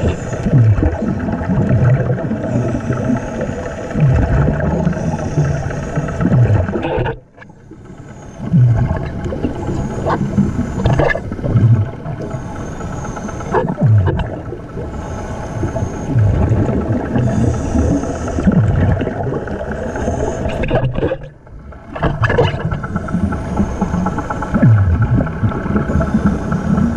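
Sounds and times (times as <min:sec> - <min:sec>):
faint compressor engine hum: 0:00.0 - 0:26.9
underwater bubbles gurgling: 0:00.0 - 0:26.9.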